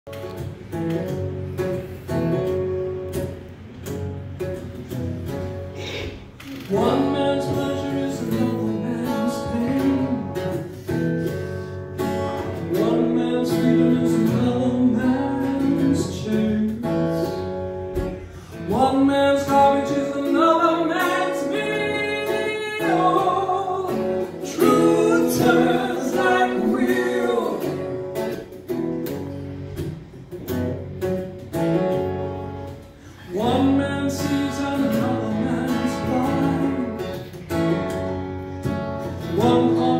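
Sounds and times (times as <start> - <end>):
strummed acoustic guitar: 0.1 - 39.9.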